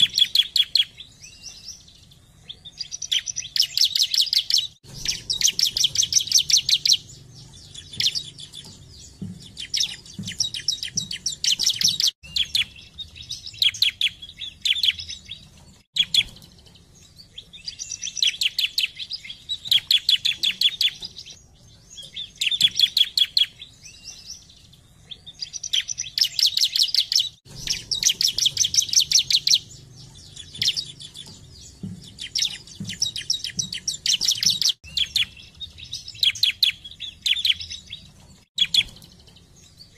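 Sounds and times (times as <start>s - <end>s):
bird singing chattering trills: 0.0s - 39.9s.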